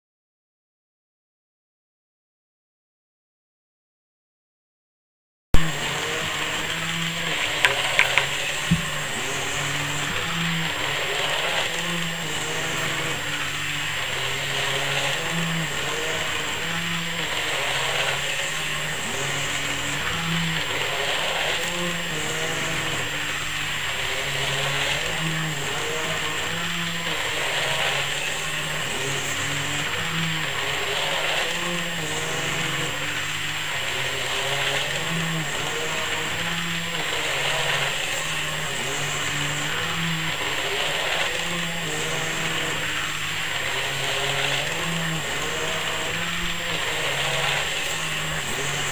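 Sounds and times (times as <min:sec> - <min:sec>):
small electric motor whirring: 0:05.6 - 0:48.9.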